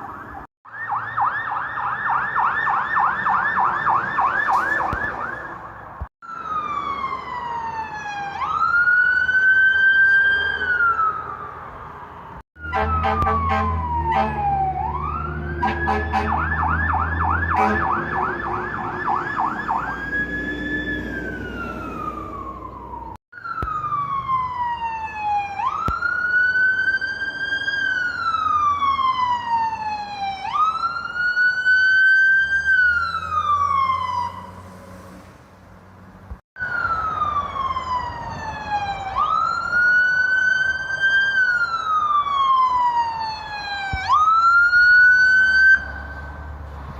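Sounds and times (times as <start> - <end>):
emergency vehicle siren: 0.0 - 35.3, 36.6 - 46.9.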